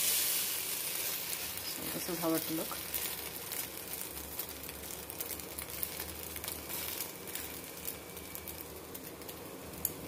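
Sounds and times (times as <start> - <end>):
omelette sizzling in pan: 0.0 - 10.0.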